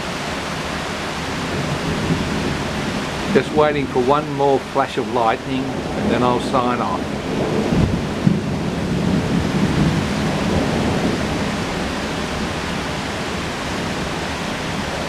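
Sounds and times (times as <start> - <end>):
rain falling steadily: 0.0 - 15.0
low rumble of thunder: 1.3 - 4.7, 5.6 - 15.0.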